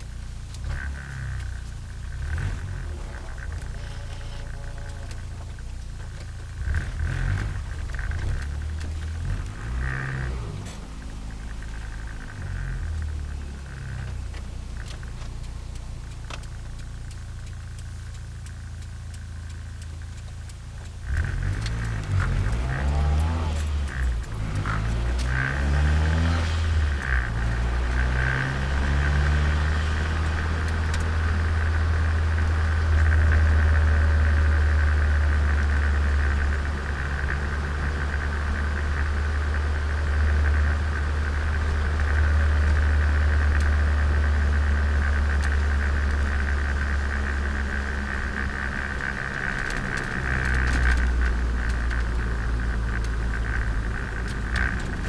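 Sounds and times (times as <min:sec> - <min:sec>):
car engine and exhaust: 0:00.0 - 0:55.0.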